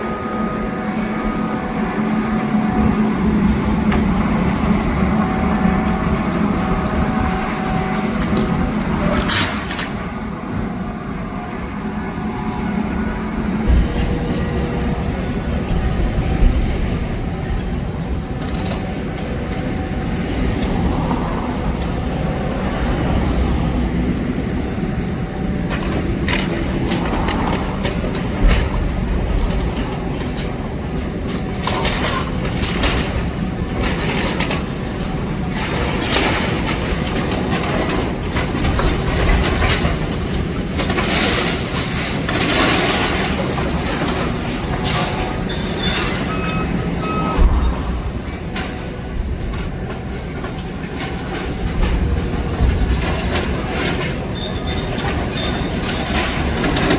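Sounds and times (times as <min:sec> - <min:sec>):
diesel excavator engine: 0:00.0 - 0:56.9
debris clanking and crashing: 0:07.9 - 0:24.1, 0:24.8 - 0:56.9.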